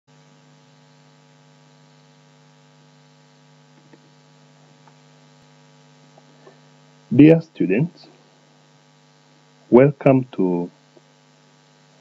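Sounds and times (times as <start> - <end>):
electrical hum: 0.2 - 12.0.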